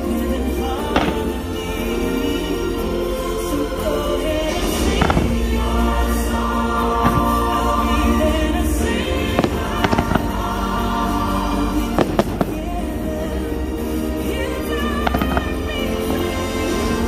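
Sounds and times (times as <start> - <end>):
music playing: 0.0 - 17.0.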